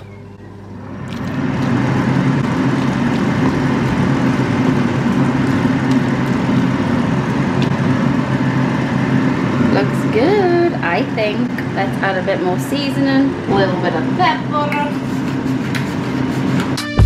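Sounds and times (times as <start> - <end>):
extractor fan running: 0.0 - 17.0.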